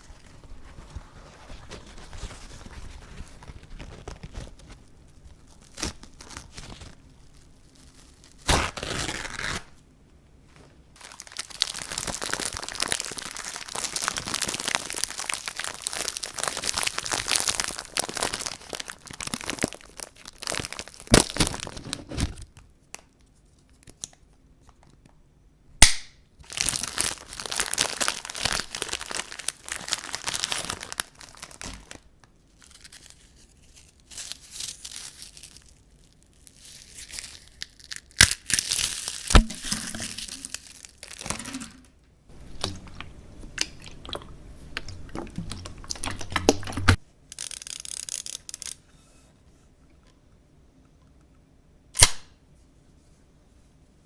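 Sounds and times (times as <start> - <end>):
crinkling and tearing: 0.0 - 9.8, 11.0 - 24.2, 26.4 - 48.8.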